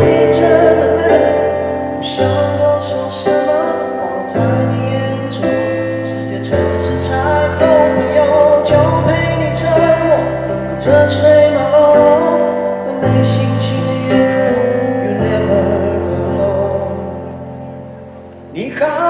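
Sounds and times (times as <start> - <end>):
man singing pop ballad: 0.0 - 17.6, 18.5 - 19.0
backing track: 0.0 - 19.0.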